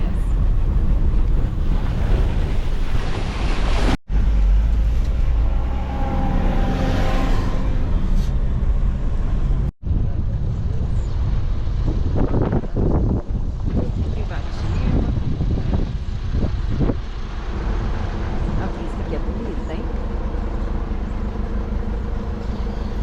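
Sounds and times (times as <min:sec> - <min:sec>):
wind noise: 0:00.0 - 0:19.5
vehicle engine and road rumble: 0:00.0 - 0:23.0.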